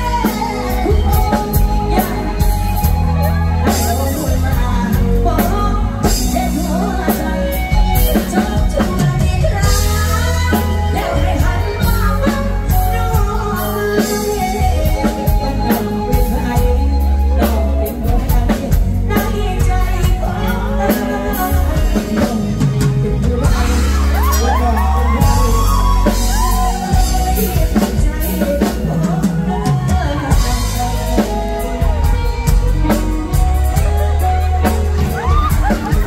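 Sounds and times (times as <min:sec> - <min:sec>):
live band playing: 0:00.0 - 0:36.0
woman singing into microphone: 0:00.0 - 0:36.0.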